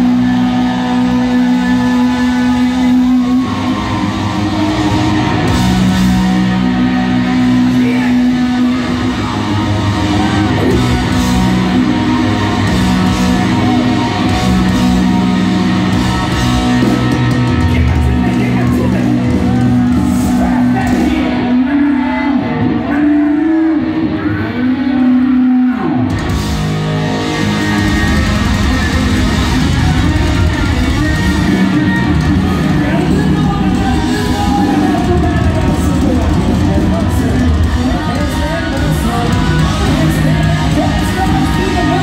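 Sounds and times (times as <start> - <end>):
electric guitar sliding notes: 0.0 - 42.0
live hard rock band: 0.0 - 42.0.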